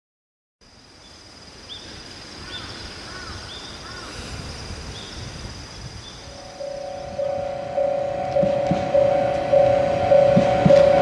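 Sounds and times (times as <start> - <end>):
high insect trill: 0.7 - 11.0.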